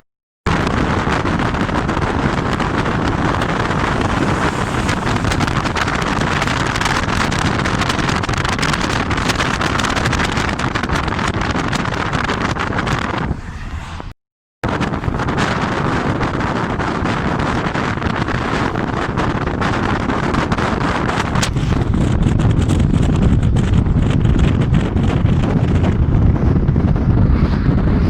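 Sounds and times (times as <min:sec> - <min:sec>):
moving vehicle noise: 0:00.5 - 0:28.0
wind buffeting microphone: 0:00.5 - 0:28.0.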